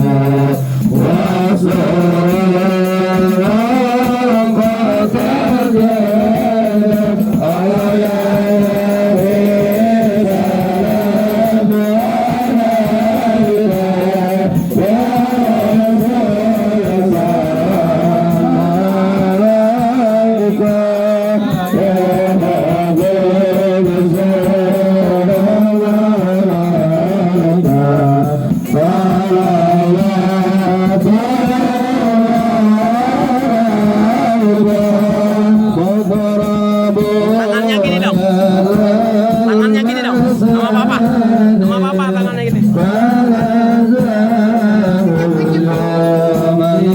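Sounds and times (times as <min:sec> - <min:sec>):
devotional chanting: 0:00.0 - 0:46.9.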